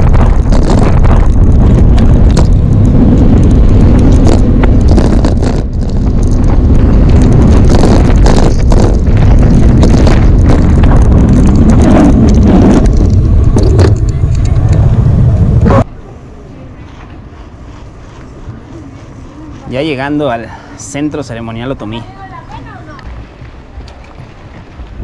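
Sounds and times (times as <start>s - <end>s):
bicycle rumble: 0.0s - 25.0s
wind buffeting microphone: 0.0s - 25.0s.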